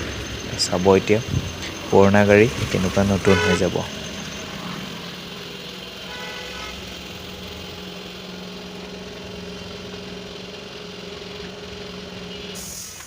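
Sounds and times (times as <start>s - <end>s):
engine running with even hum: 0.0s - 13.0s.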